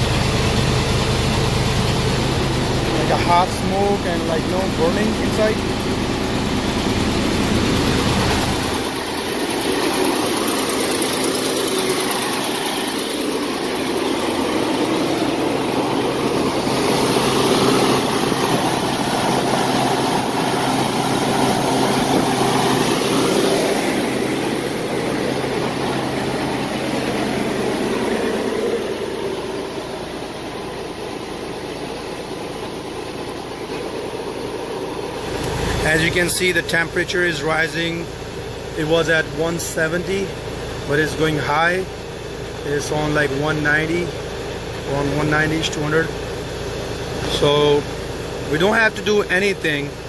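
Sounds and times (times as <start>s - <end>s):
cooling fan running: 0.0s - 50.0s
diesel truck engine idling: 0.0s - 50.0s.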